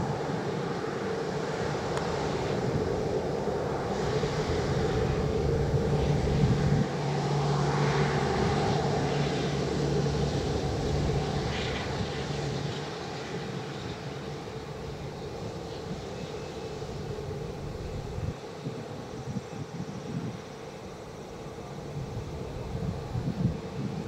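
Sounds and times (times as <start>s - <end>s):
jet engines idling: 0.0s - 24.0s.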